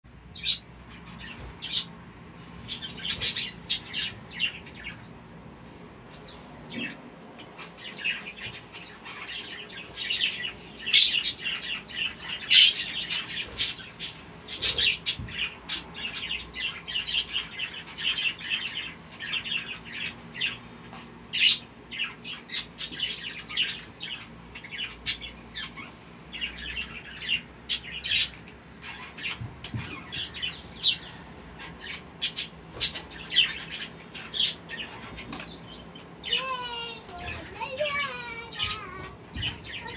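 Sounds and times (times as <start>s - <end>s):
budgerigars chirping and squawking: 0.2s - 39.9s.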